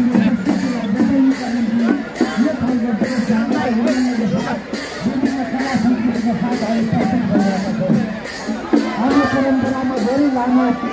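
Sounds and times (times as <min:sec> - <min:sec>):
drum strokes: 0:00.0 - 0:10.9.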